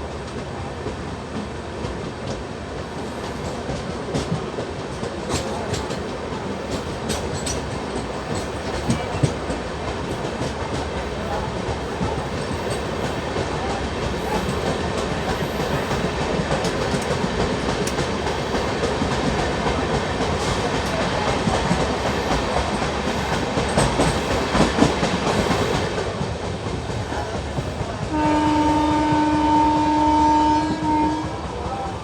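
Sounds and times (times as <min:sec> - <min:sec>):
train wheels rumbling and rattling: 0:00.0 - 0:32.0.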